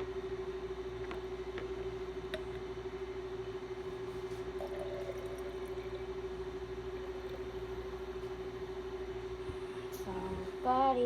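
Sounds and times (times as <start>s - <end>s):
steady single-pitched hum: 0.0s - 11.0s.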